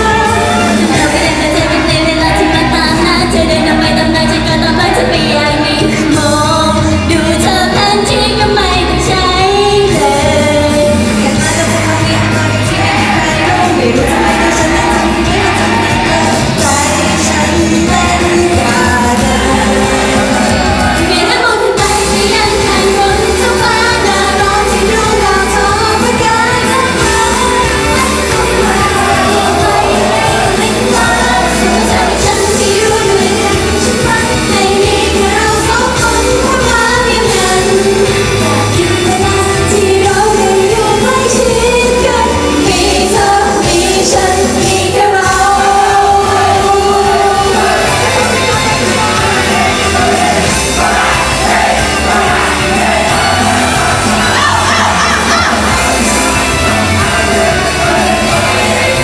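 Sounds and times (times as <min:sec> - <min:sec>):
pop accompaniment: 0:00.0 - 0:59.0
women singing into microphones: 0:00.0 - 0:59.0.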